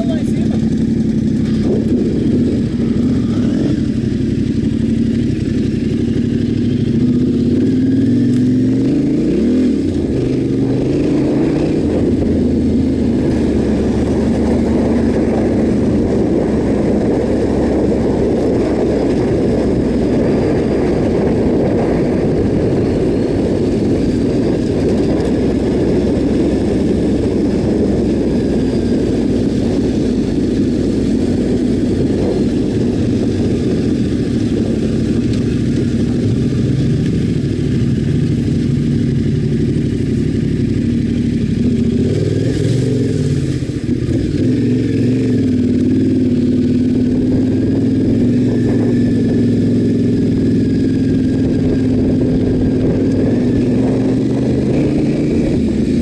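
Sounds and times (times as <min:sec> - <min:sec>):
motorcycle engine idling and revving: 0:00.0 - 0:56.0
wind rushing over microphone: 0:00.0 - 0:56.0.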